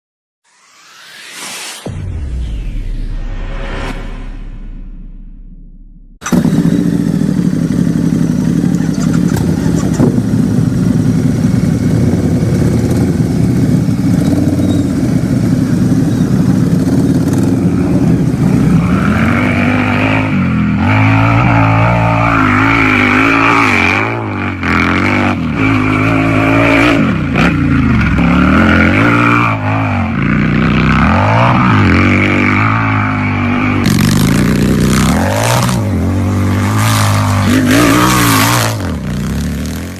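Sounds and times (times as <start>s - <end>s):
motorcycle engine idling and revving: 4.3s - 39.9s.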